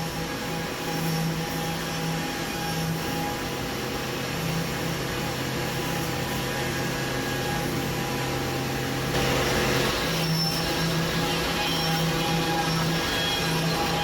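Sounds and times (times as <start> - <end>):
milling machine machining metal: 0.0 - 14.0.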